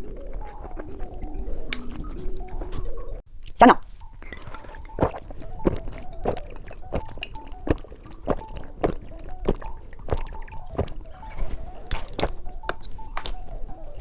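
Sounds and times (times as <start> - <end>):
wet candy chewing: 0.0 - 3.0, 4.0 - 14.0.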